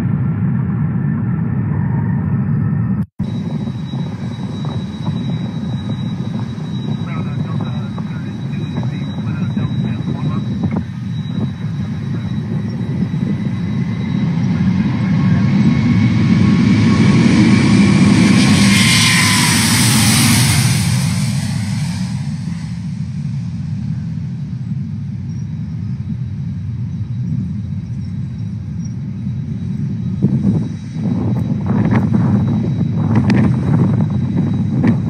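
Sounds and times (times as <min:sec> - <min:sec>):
deep rumble: 0:00.0 - 0:35.0
jet engine whine: 0:00.0 - 0:35.0
jet engines at takeoff: 0:00.0 - 0:35.0.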